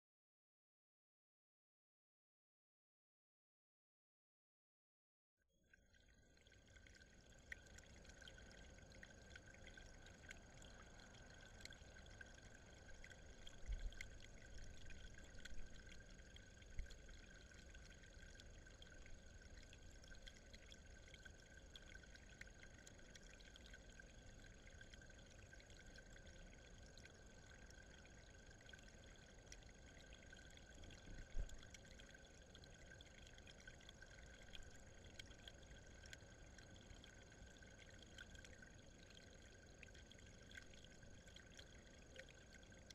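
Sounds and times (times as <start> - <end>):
water trickling over rocks: 5.6 - 42.9.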